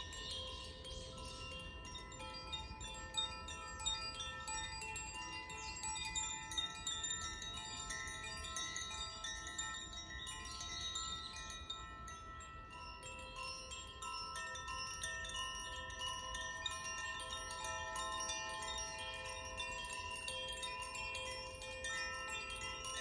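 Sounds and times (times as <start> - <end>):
wind chimes ringing: 0.0 - 23.0.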